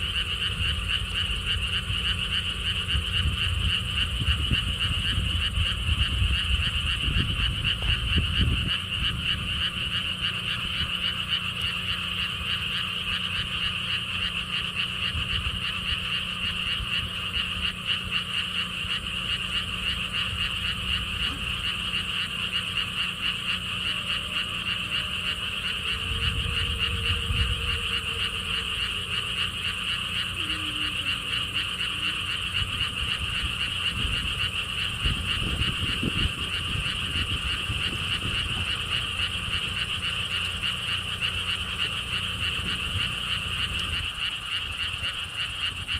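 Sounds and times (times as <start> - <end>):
chorus of frogs trilling: 0.0 - 45.9
wind rumbling on microphone: 0.0 - 45.9.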